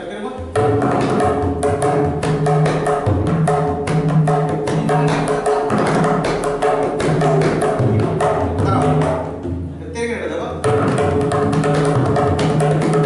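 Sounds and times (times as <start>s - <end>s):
tabla played solo: 0.4s - 9.7s, 10.5s - 13.0s.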